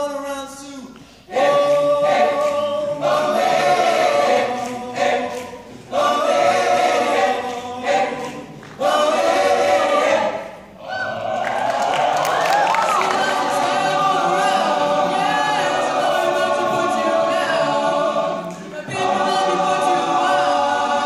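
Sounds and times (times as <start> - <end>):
men's choir singing: 1.3 - 10.7, 12.8 - 21.0.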